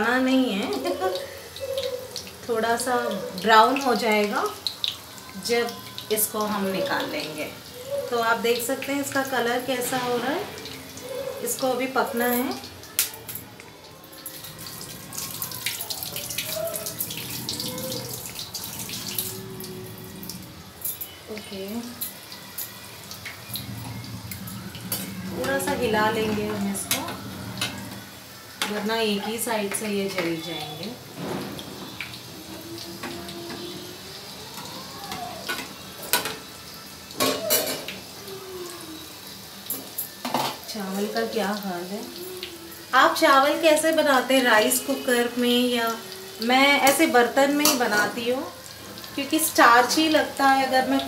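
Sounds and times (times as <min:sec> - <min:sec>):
food deep-frying in hot oil: 0:00.0 - 0:51.0.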